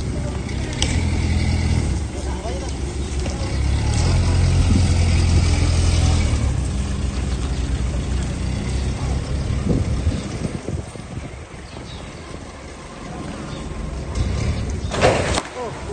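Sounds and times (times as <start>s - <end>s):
forklift diesel engine running: 0.0s - 14.9s.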